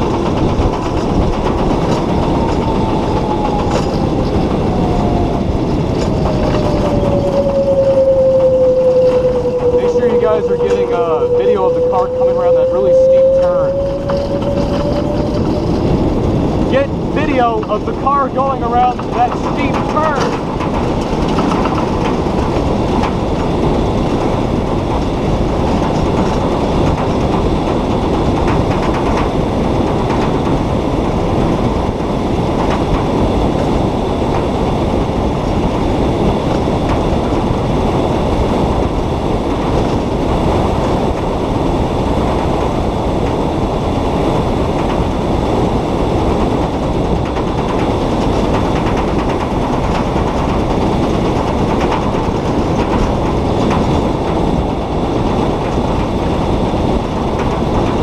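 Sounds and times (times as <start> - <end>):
small car rumbling along track: 0.0 - 58.0.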